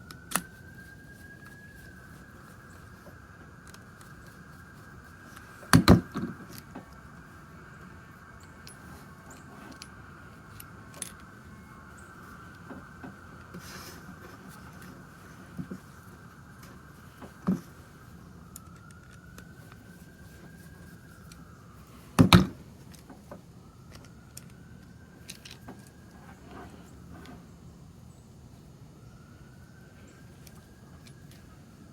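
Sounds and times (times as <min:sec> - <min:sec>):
faint high whine: 0:00.0 - 0:31.9.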